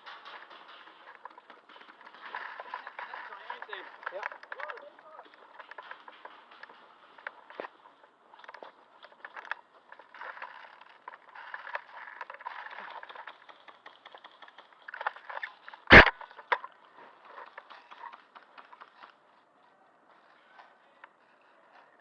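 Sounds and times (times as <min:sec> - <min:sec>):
handling noise rustling and scraping: 0:00.0 - 0:22.0.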